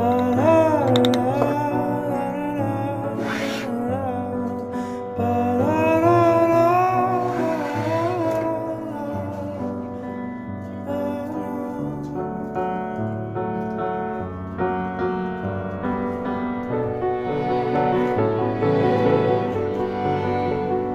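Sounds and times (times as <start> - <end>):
soft piano chords: 0.0 - 20.9.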